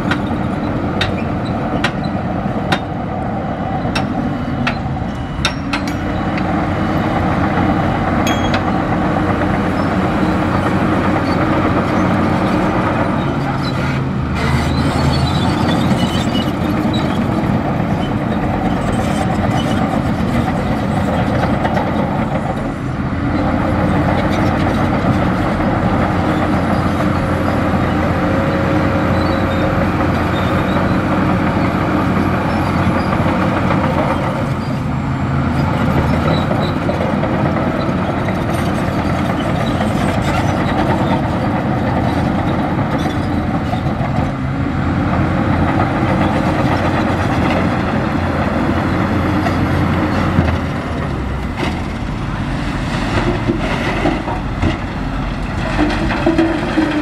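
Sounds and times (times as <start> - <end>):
heavy diesel machine drone: 0.0 - 57.0.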